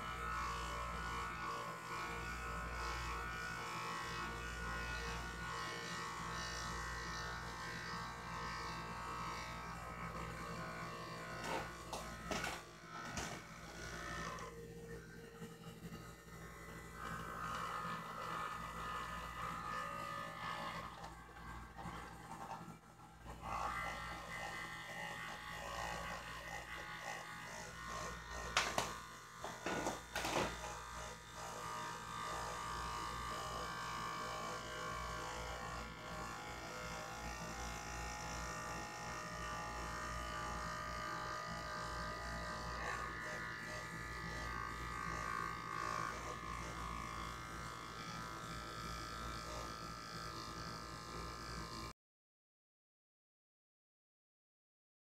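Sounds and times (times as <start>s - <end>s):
electric motor whine: 0.0s - 51.9s.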